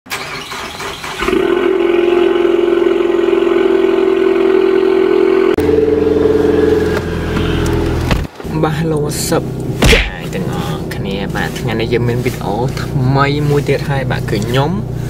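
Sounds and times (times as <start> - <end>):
car engine starting and running: 0.1 - 15.0.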